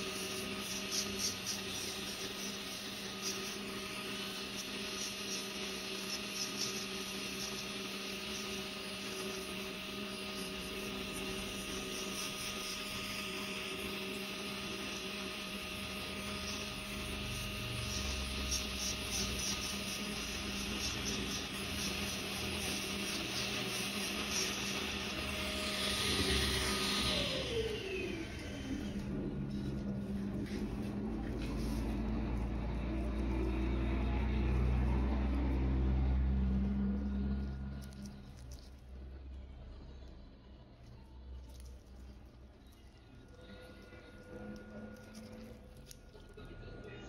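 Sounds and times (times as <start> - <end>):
electrical hum: 0.0 - 47.0.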